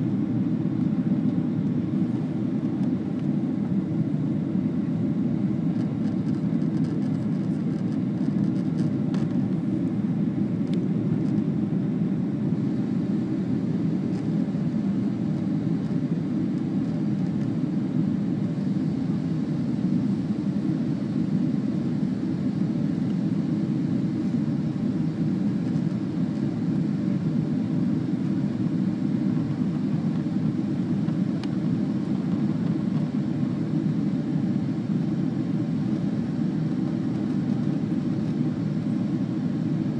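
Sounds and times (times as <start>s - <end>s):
airliner cabin jet noise: 0.0s - 39.9s.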